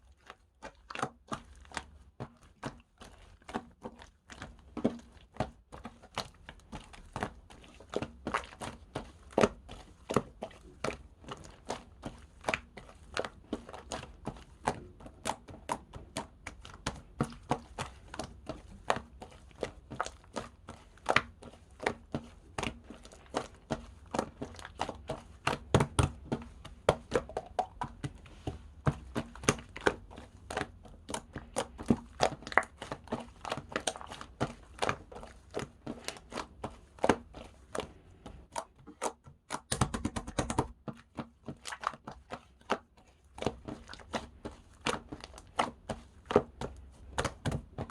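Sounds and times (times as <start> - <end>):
slime squished by hand: 0.0 - 47.9.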